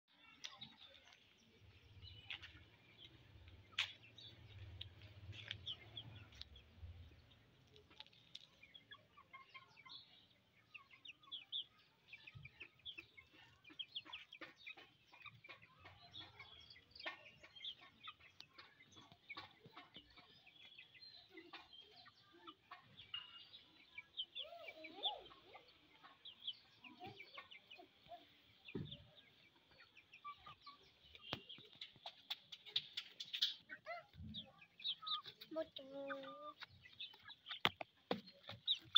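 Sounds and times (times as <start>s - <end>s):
chickens clucking: 0.1s - 38.9s.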